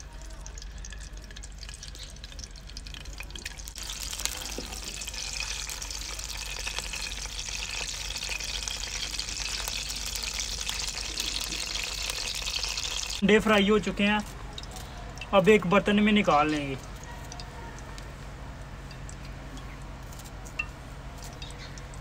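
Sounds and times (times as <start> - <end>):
eggs sizzling in hot fat: 0.0 - 22.0.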